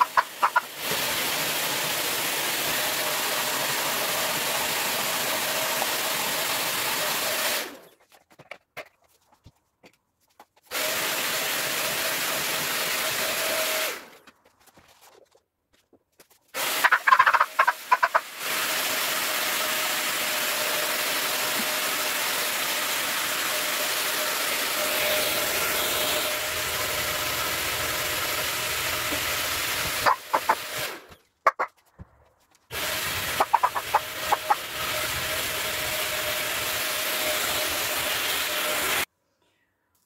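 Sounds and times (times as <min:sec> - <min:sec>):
handheld vacuum cleaner running: 0:00.0 - 0:07.9, 0:10.7 - 0:14.2, 0:16.6 - 0:31.2, 0:32.7 - 0:39.1.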